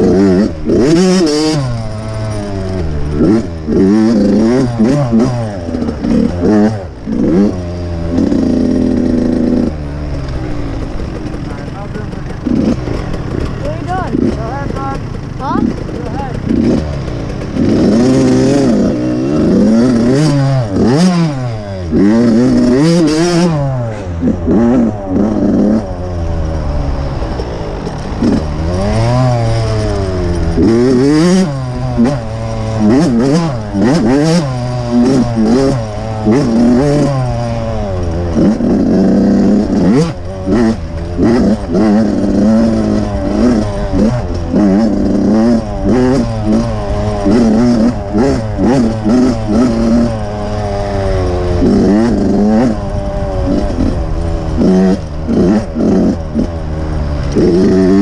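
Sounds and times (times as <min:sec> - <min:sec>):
dirt bike engine revving: 0:00.0 - 0:58.0
knocks and clatter: 0:00.0 - 0:58.0.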